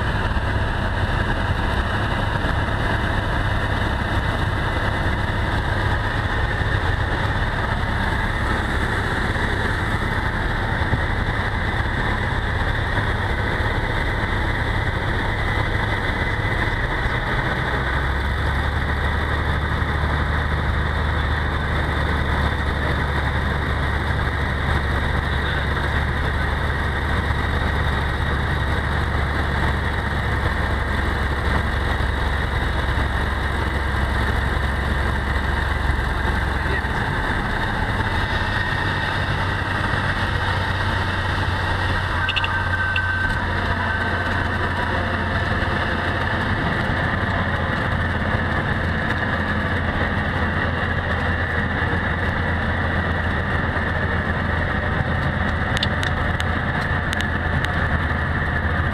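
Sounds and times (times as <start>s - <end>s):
airplane engine and propeller droning: 0.0s - 58.9s.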